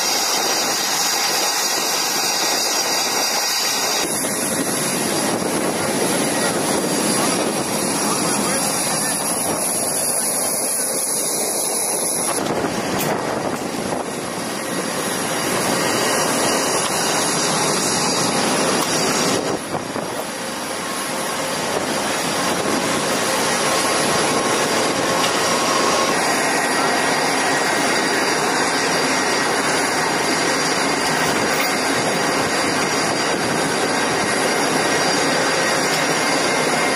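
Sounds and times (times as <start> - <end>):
high turbine whine: 0.0 - 36.9
jet engine roar: 0.0 - 36.9.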